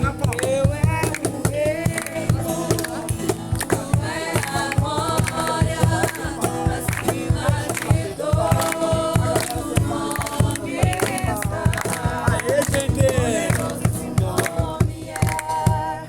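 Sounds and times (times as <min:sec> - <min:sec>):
group singing worship song: 0:00.0 - 0:16.0
music with steady beat: 0:00.0 - 0:16.0.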